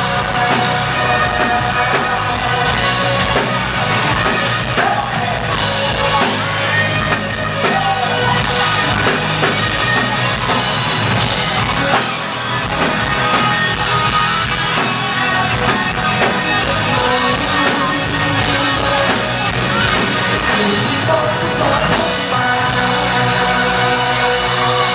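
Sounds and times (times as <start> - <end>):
drum kit: 0.0 - 24.9
guitars: 0.0 - 24.9
live rock band playing: 0.0 - 24.9
person singing: 0.0 - 24.9.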